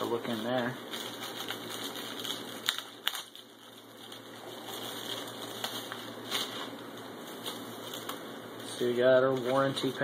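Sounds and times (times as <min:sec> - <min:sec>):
paper and plastic wrap crinkling: 0:00.0 - 0:10.0.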